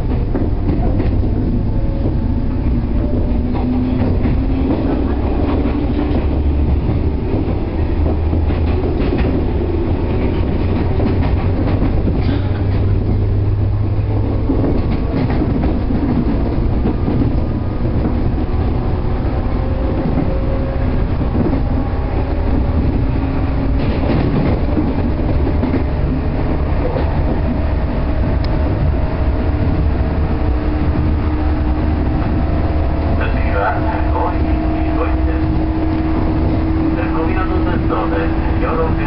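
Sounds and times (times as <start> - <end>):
electric train rumble: 0.0 - 39.0
rail-joint clacking: 0.0 - 39.0.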